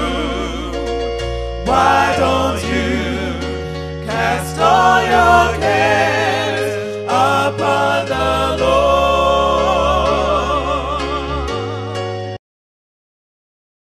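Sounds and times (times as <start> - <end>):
voices singing with vibrato: 0.0 - 0.9, 1.6 - 12.0
held bass notes: 0.0 - 12.4.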